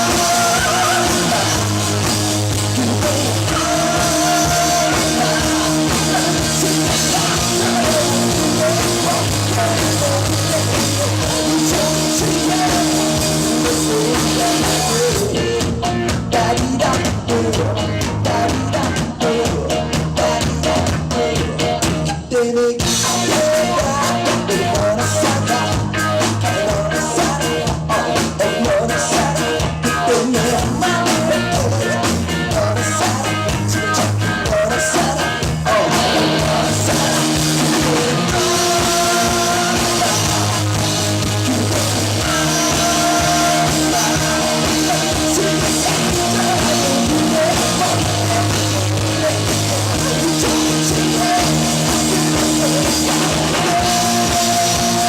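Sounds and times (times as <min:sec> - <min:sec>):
drum kit: 0:00.0 - 0:55.0
electric guitar: 0:00.0 - 0:55.0
person singing: 0:00.0 - 0:55.0.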